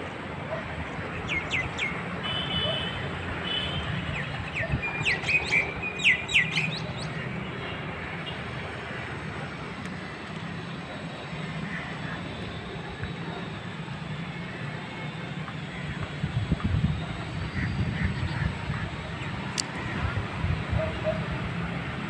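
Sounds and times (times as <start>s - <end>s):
low hum of city traffic: 0.0s - 22.0s.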